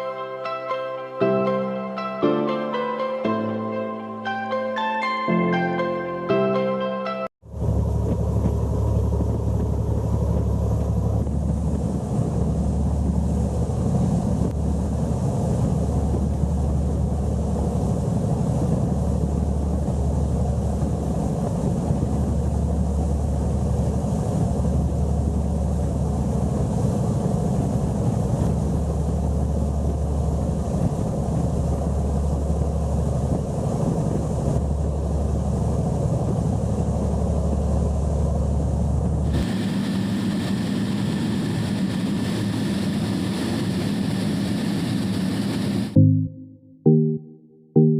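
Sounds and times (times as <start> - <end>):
boat engine drone: 0.0 - 46.1.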